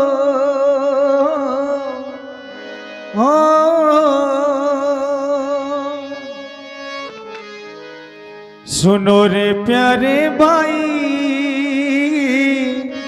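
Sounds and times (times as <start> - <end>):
man singing with vibrato: 0.0 - 7.3, 8.6 - 13.0.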